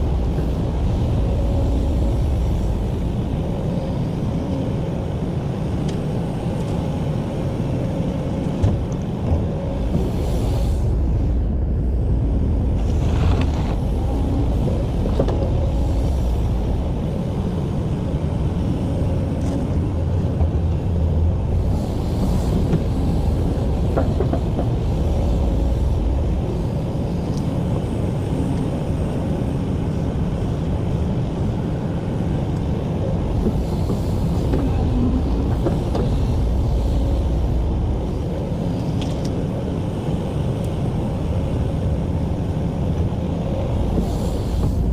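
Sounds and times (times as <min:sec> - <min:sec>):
diesel engine rumbling: 0:08.5 - 0:44.9.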